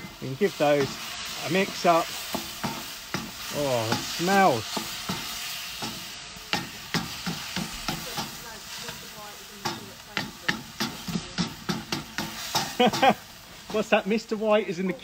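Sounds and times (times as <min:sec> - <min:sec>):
wooden spoon scraping a wok: 0:00.0 - 0:14.3
stir-fry sizzling in a wok: 0:00.0 - 0:15.0.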